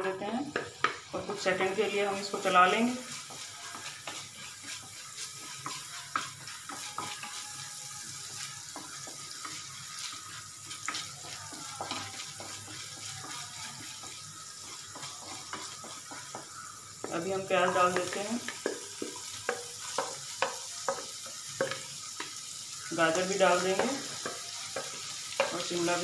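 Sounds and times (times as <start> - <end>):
garlic sizzling in pan: 0.0 - 26.0
spatula stirring in pan: 0.0 - 26.0.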